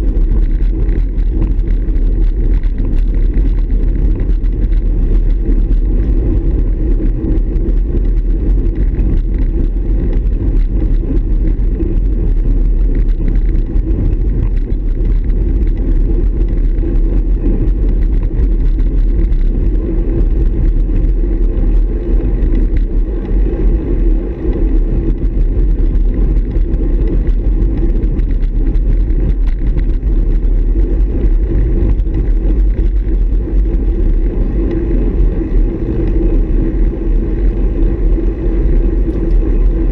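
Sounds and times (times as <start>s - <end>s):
road vibration: 0.0s - 39.9s
wind buffeting: 0.0s - 39.9s.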